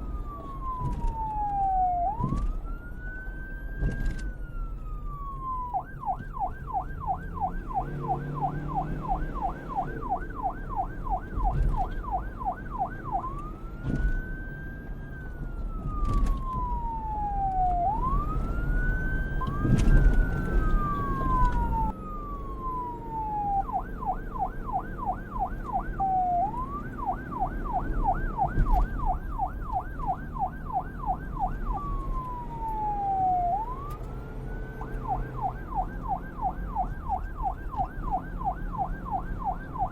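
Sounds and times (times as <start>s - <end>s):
police car siren: 0.0s - 39.9s.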